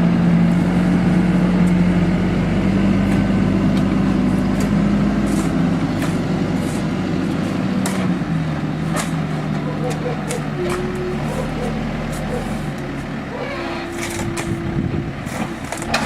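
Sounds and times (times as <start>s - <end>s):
plate compactor and tractor engines: 0.0s - 16.0s.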